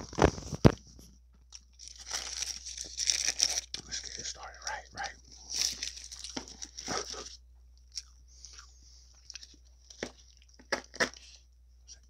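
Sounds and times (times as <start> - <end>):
person chewing and crunching food: 1.5 - 11.4.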